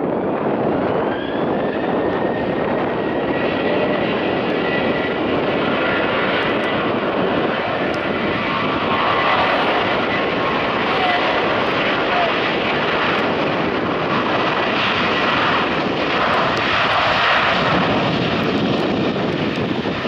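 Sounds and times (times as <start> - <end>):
jet engine roar with fan whine: 0.0 - 20.0.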